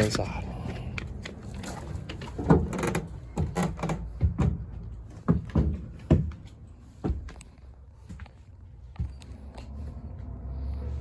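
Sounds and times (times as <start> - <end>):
footsteps on motorhome steps: 0.0 - 10.5.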